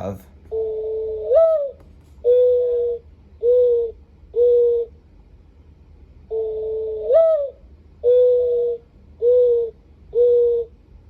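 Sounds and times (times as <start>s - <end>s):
mourning dove cooing from clock: 0.5s - 5.1s, 6.2s - 11.0s.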